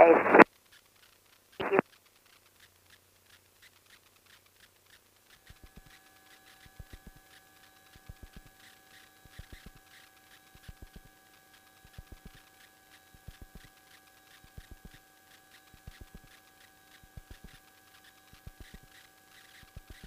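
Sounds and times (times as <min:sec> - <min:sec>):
radio hiss and electrical hum: 0:00.0 - 0:00.6, 0:01.3 - 0:02.8, 0:03.6 - 0:20.0.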